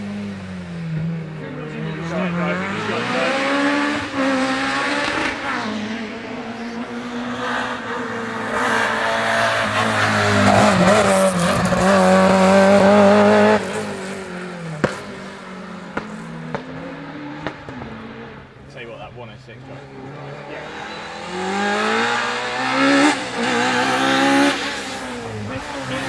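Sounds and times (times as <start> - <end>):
car engine revving hard: 1.0 - 18.6, 19.8 - 26.0.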